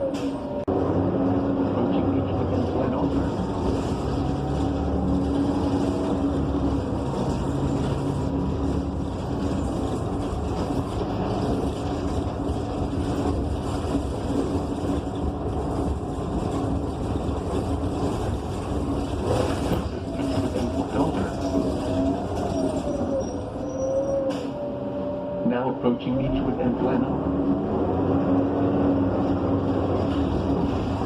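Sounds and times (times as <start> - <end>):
bus engine running: 0.0 - 25.2, 25.8 - 31.0
road noise rumble: 0.0 - 31.0.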